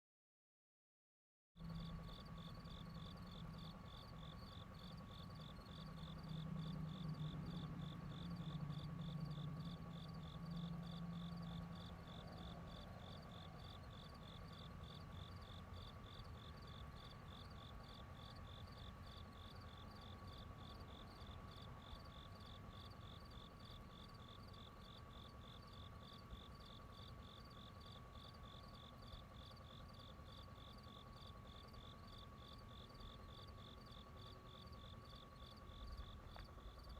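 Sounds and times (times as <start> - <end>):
insects chirping: 1.6 - 36.9
low whirring hum: 1.6 - 36.9.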